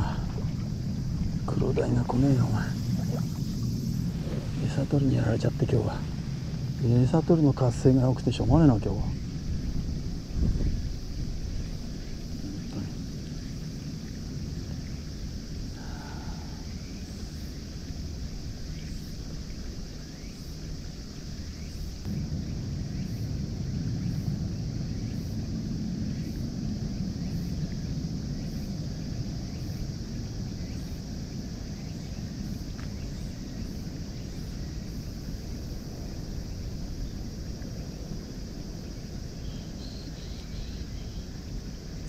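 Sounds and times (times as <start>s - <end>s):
low rumble of wind on microphone: 0.0s - 42.0s
steady high hiss: 0.0s - 42.0s.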